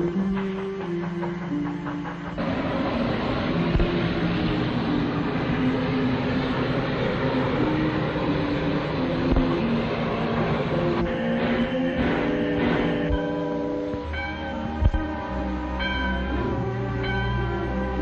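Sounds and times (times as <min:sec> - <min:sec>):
train running: 0:00.0 - 0:18.0.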